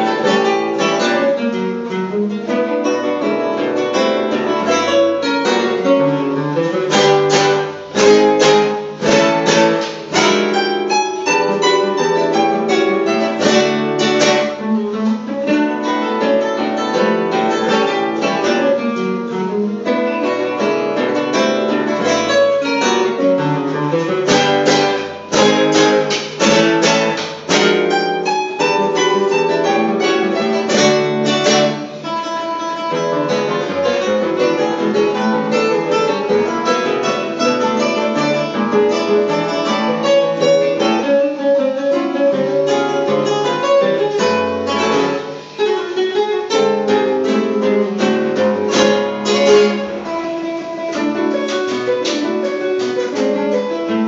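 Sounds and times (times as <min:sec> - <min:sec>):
classical guitars playing a waltz: 0:00.0 - 0:54.0.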